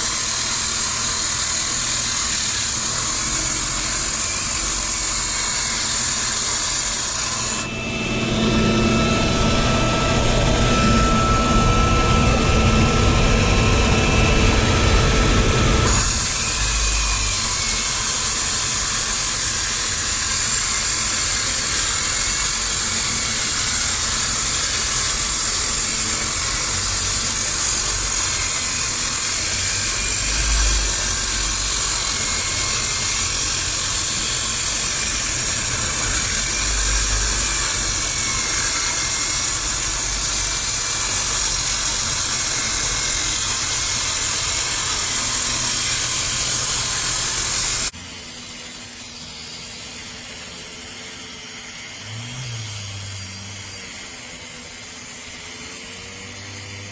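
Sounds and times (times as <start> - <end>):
circular saw grinding concrete: 0.0 - 56.9.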